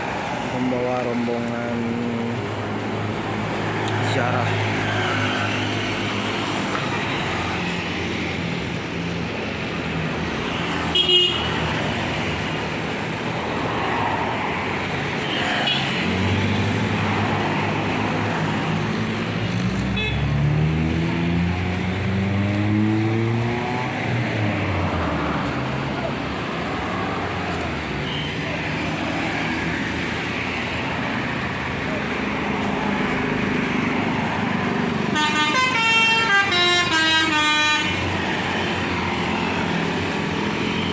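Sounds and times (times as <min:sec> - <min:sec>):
traffic noise: 0:00.0 - 0:40.9.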